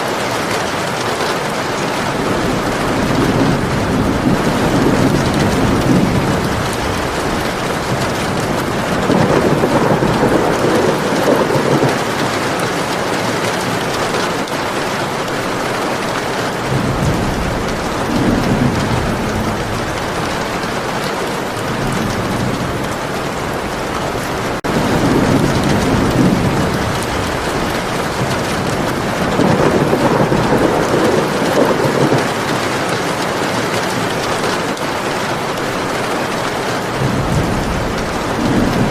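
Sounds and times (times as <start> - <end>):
heavy rain hissing: 0.0 - 38.9
rolling thunder: 1.6 - 38.9.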